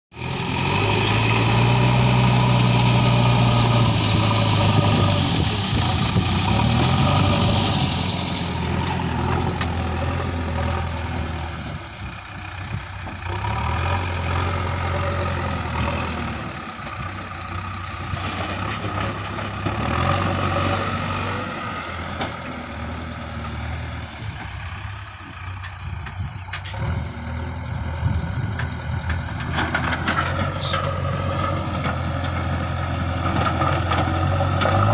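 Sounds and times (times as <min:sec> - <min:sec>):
diesel engine under load: 0:00.1 - 0:34.9.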